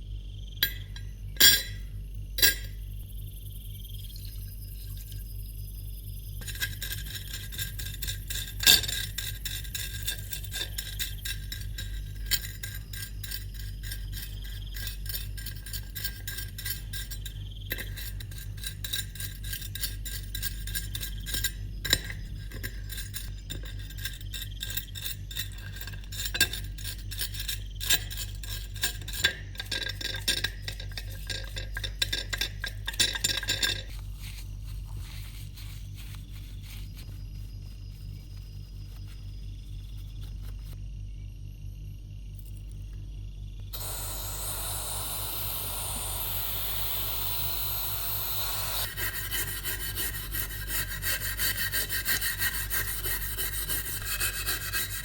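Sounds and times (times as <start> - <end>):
steady low hum: 0.0 - 55.0
metal clinking and scraping: 0.6 - 2.8, 4.2 - 5.4, 6.4 - 40.8, 43.8 - 55.0.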